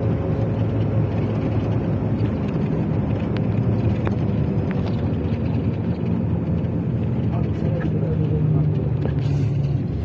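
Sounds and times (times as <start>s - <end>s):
motor vehicle rumble: 0.0s - 10.0s.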